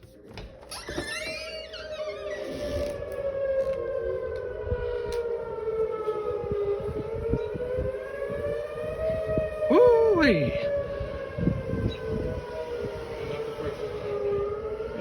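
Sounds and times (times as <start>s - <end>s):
warning sirens wailing: 0.5s - 15.0s.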